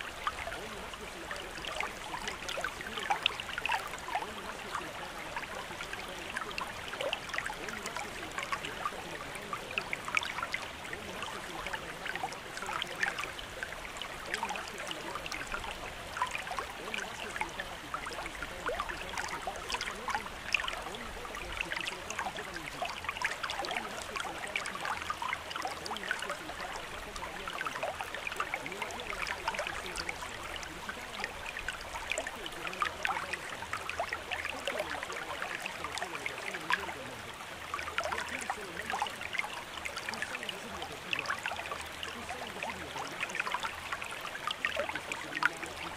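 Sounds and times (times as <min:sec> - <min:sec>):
water trickling and splashing: 0:00.0 - 0:45.9.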